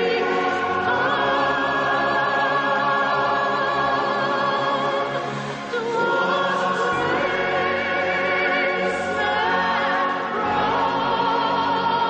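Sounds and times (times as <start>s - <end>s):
choir singing with vibrato: 0.0s - 12.0s.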